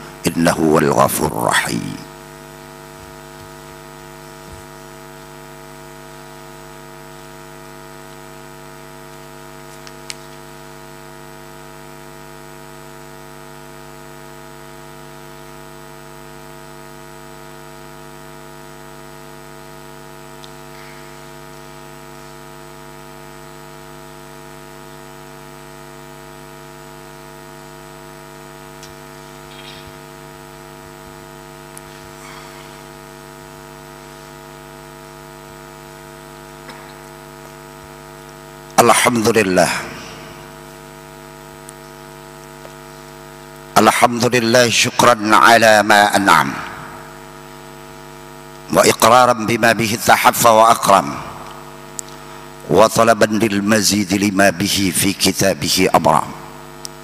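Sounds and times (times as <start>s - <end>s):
mains hum: 0.0s - 57.0s.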